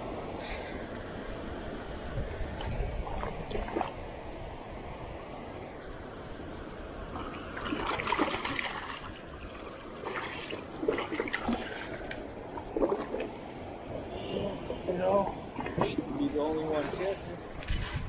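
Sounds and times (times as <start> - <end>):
water splashing and trickling: 0.4 - 5.0, 7.0 - 18.0.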